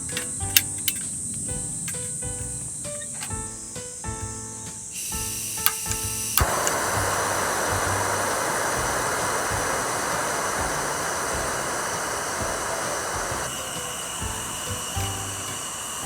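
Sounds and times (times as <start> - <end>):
background music: 0.0 - 16.0
steady hiss: 0.0 - 16.0.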